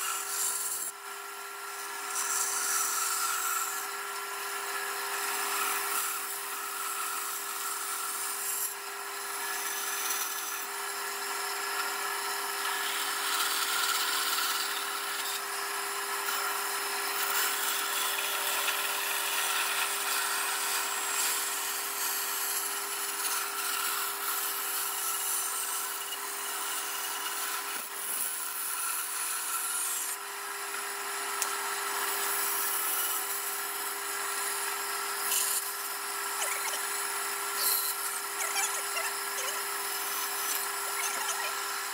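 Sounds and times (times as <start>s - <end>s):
bandsaw humming: 0.0s - 41.9s
saw blade cutting wood: 0.0s - 41.9s.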